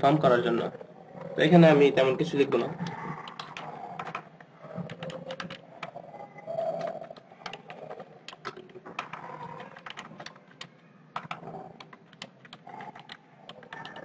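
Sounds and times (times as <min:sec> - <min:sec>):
computer keyboard typing: 0:02.7 - 0:14.0.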